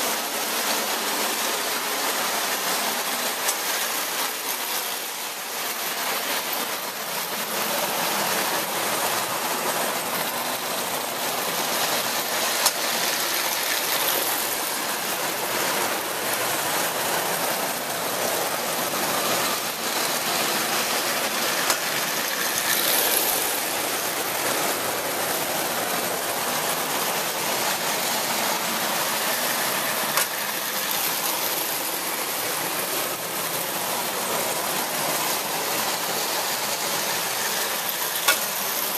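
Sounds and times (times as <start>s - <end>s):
toy trains whirring on track: 0.0s - 38.9s.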